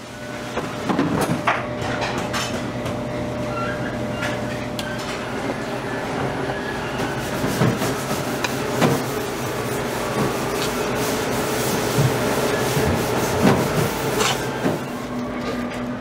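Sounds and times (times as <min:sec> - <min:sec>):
kitchen hum and rumble: 0:00.0 - 0:16.0.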